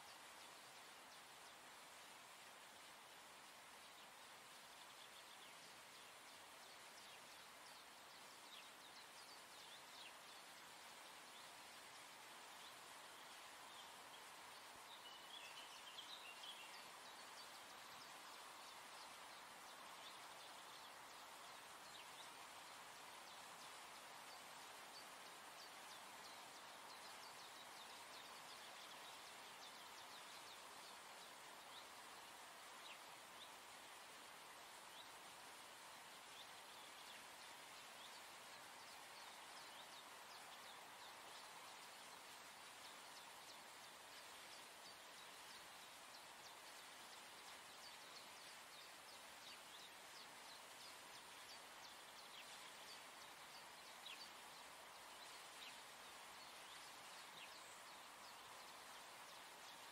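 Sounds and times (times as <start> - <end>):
soft steady hiss: 0.0 - 59.9.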